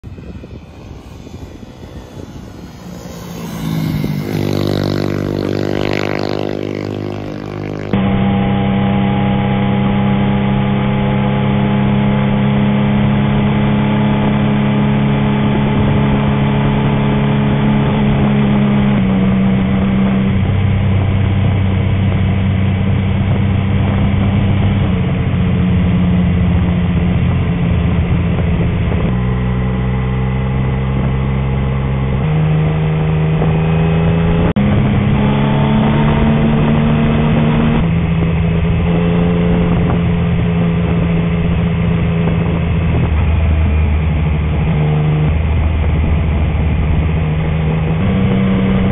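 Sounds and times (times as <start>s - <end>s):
motorcycle engine cruising: 0.0s - 48.9s
motorcycle engine revving: 0.0s - 48.9s
wind noise: 0.0s - 48.9s.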